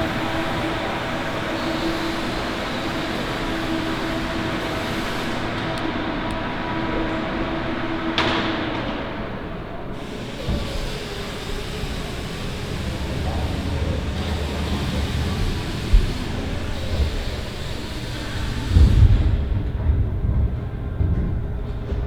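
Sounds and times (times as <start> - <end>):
machinery hum and hiss: 0.0 - 22.0.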